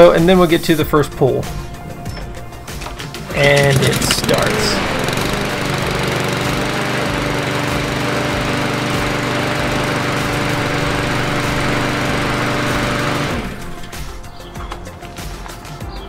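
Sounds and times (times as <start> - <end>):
lawn mower engine running: 1.8 - 14.8.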